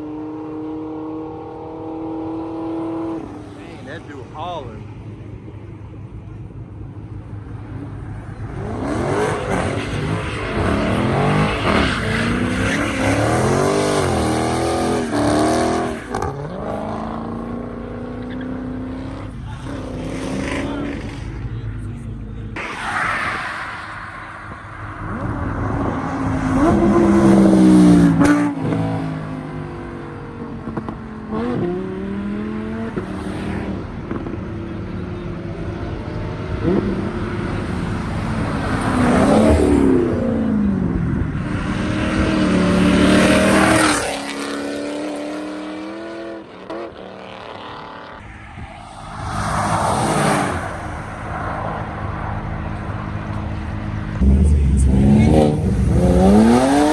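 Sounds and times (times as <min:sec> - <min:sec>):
cars revving past: 0:07.0 - 0:56.9.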